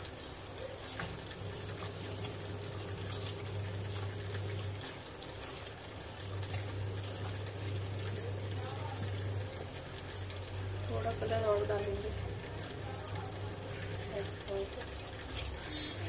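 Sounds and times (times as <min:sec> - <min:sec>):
wet squelching of chicken mixed by hand: 0:00.0 - 0:16.0.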